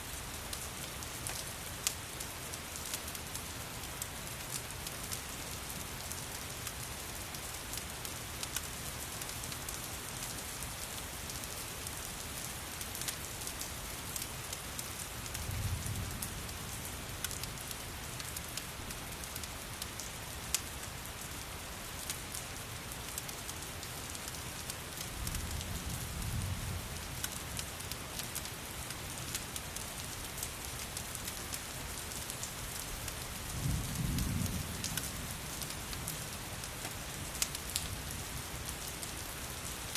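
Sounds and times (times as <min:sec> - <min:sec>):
rain hiss: 0:00.0 - 0:39.9
small crackles and drips: 0:00.0 - 0:39.9.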